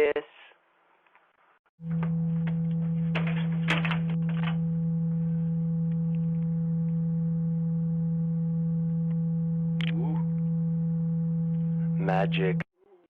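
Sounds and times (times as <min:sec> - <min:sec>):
low electronic hum: 0:01.8 - 0:12.7.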